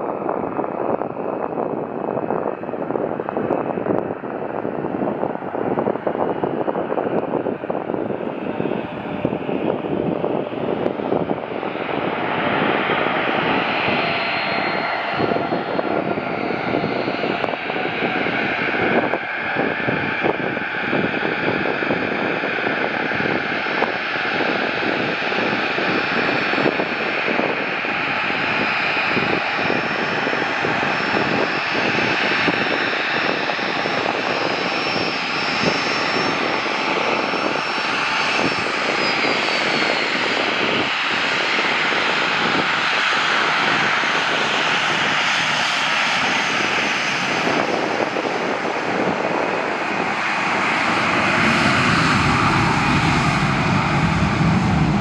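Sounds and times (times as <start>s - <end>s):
jet engines rushing: 0.0s - 55.0s.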